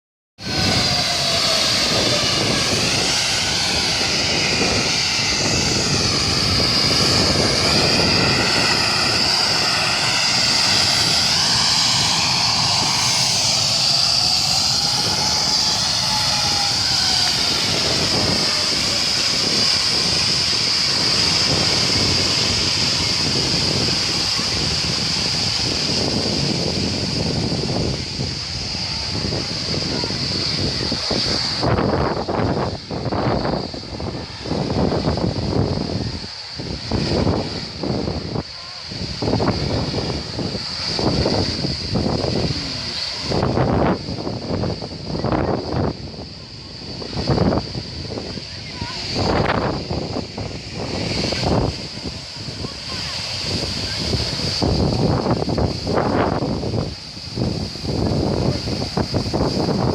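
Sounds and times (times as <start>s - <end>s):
jet engines roaring: 0.4s - 59.9s.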